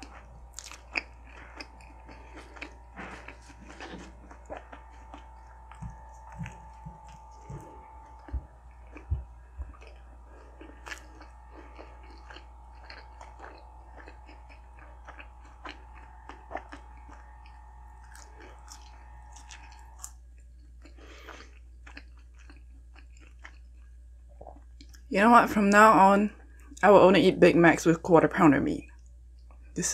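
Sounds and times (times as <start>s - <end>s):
biting into a burger: 0.0s - 25.0s
wet mouth chewing: 0.0s - 25.0s.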